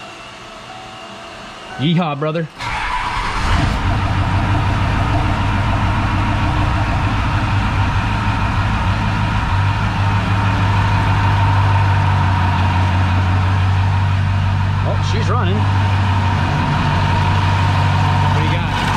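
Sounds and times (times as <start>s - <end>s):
steady engine whine: 0.0s - 18.9s
diesel engine starting and idling: 2.5s - 18.9s.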